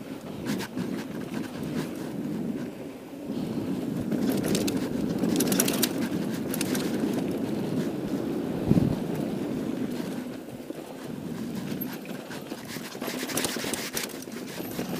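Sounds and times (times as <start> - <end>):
bike tyre and wind rumble: 0.0 - 14.9
bike clicks and stones rattling: 0.2 - 2.8, 3.8 - 8.2, 9.1 - 14.9.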